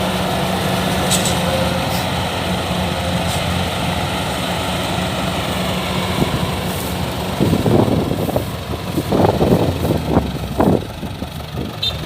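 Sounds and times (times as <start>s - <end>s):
combine harvester diesel engine: 0.0s - 12.0s.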